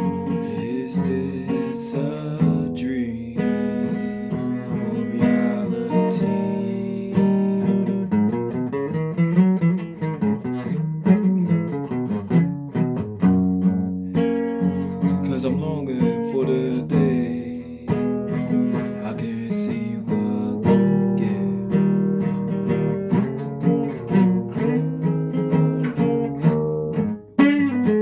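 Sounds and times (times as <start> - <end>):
guitar strummed and plucked: 0.0 - 28.0.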